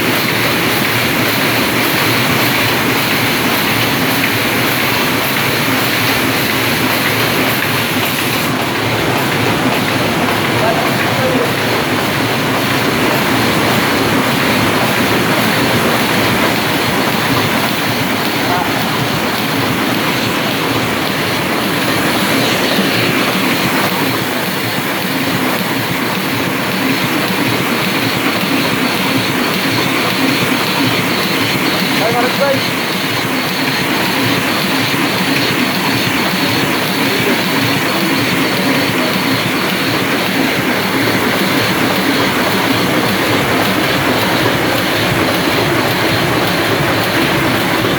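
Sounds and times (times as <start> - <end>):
printing press clatter: 0.0 - 47.9.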